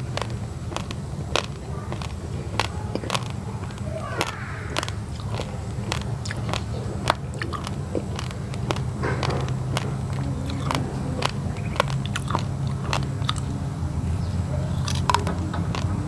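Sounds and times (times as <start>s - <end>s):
rice grains crunched by teeth: 0.0s - 13.7s, 14.7s - 16.0s
steady low hum: 0.0s - 16.0s.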